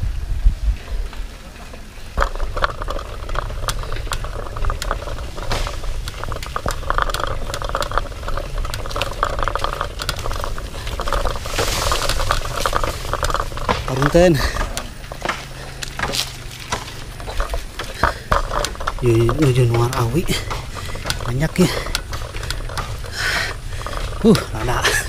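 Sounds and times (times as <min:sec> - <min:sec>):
bicycle rattling over rough road: 0:00.0 - 0:25.0.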